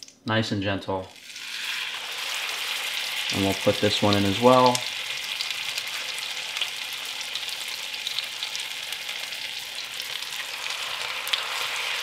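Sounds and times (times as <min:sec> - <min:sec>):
meat sizzling in a frying pan: 0:01.2 - 0:12.0.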